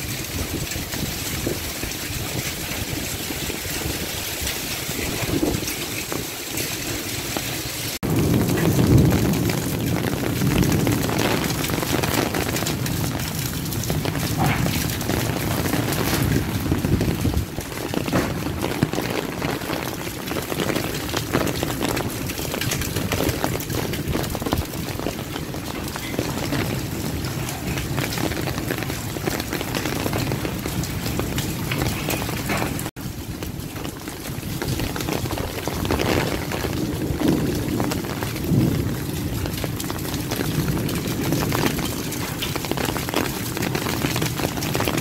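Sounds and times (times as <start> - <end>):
heavy rain on hard surfaces: 0.0 - 45.0
wind buffeting microphone: 0.0 - 45.0.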